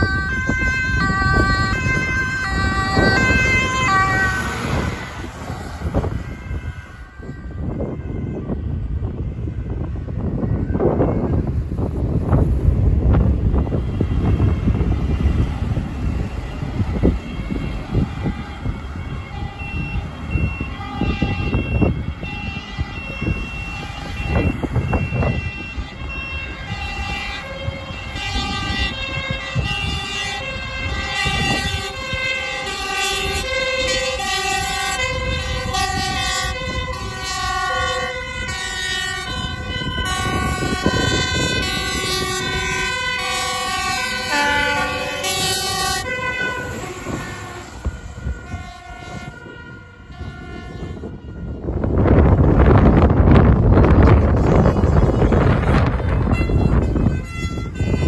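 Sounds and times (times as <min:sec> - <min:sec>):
fire engine two-tone siren: 0:00.0 - 0:58.0.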